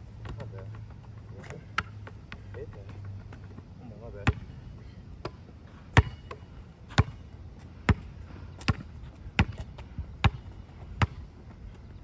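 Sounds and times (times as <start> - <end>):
basketball bouncing on asphalt: 0.1 - 4.6, 5.2 - 11.3.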